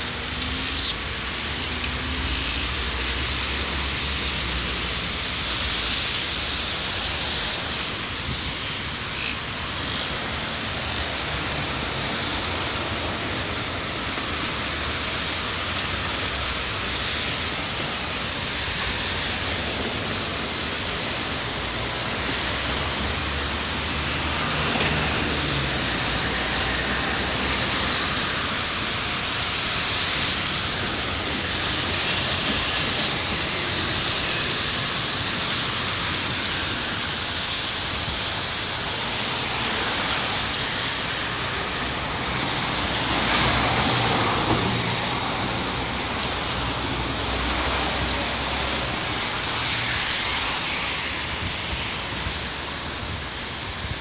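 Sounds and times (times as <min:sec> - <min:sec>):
traffic hiss on wet roads: 0:00.0 - 0:54.0.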